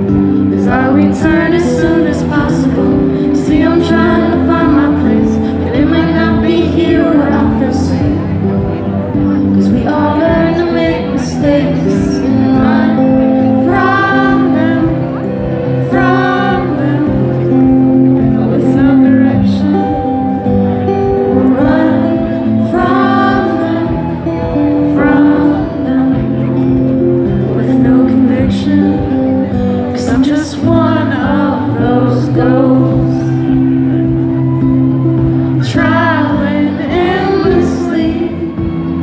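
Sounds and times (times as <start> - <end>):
woman singing: 0.0 - 39.0.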